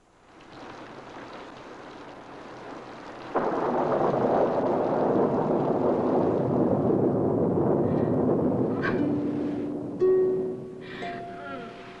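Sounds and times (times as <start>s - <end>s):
rain hiss: 0.0s - 12.0s
thunderclap and rumble: 0.4s - 10.8s.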